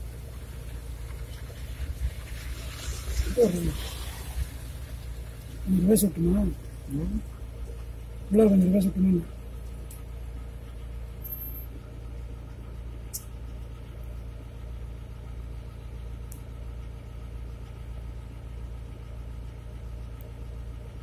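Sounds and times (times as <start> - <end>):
truck diesel engine idling: 0.0 - 21.0.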